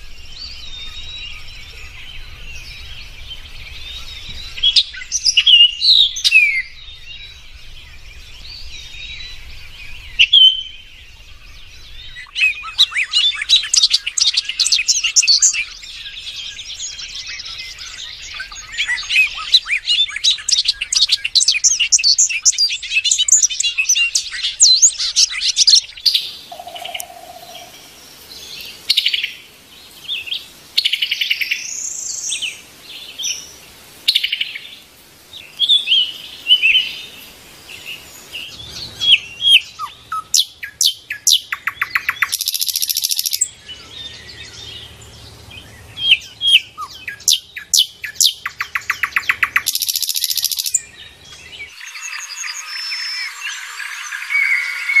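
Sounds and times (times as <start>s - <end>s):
bird trills: 0.0s - 28.0s, 37.9s - 55.0s
small songbirds chirping: 0.0s - 55.0s.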